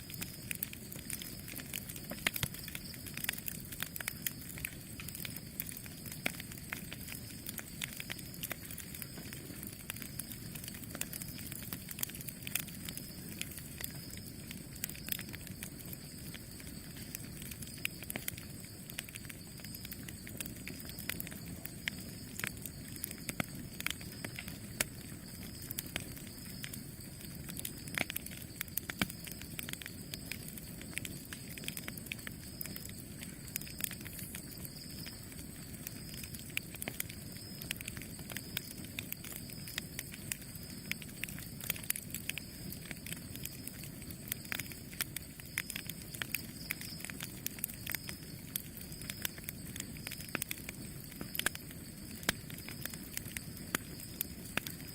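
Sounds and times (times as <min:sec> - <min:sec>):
burning wood popping and snapping: 0:00.0 - 0:54.9
low rumble of flames: 0:00.0 - 0:54.9.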